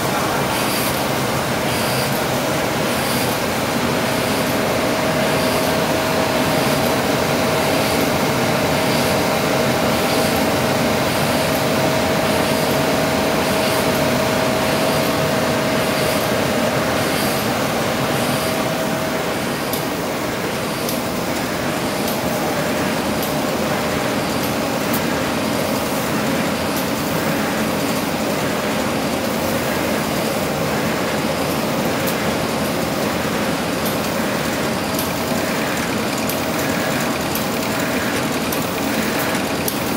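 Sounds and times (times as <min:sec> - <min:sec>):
laminating machine drone: 0:00.0 - 0:39.9.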